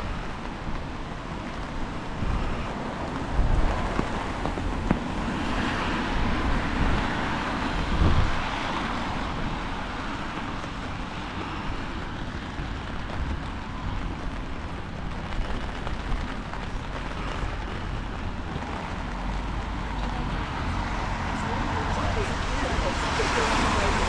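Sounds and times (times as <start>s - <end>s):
wind rushing along street: 0.0s - 24.0s.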